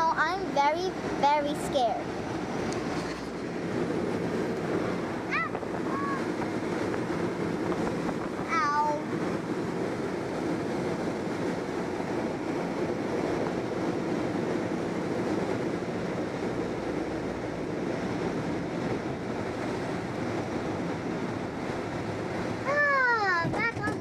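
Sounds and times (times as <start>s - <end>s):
rush of air past canopy: 0.0s - 23.8s.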